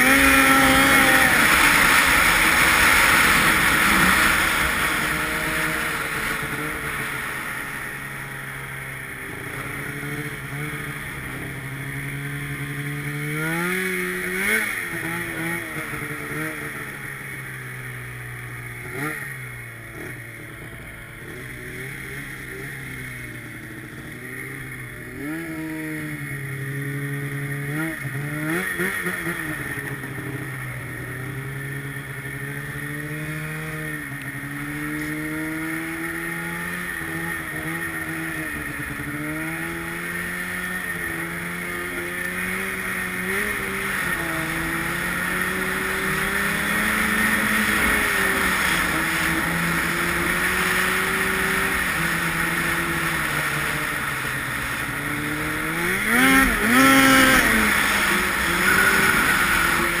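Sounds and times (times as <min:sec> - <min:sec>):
snowmobile engine running: 0:00.0 - 1:00.0.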